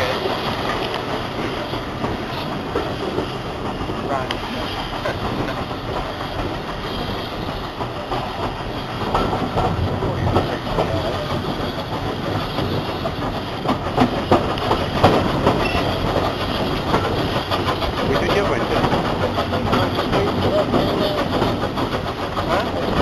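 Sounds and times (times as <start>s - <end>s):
train wheels clicking over rail joints: 0.0s - 23.0s.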